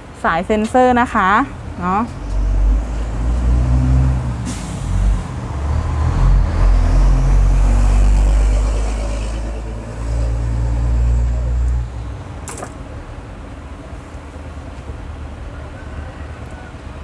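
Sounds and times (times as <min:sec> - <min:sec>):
large vehicle engine rumble: 0:01.2 - 0:17.0.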